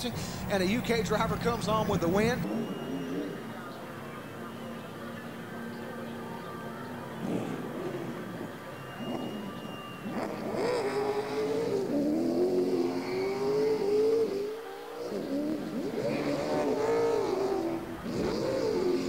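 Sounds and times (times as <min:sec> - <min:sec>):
stock car engines revving: 0:00.0 - 0:19.0.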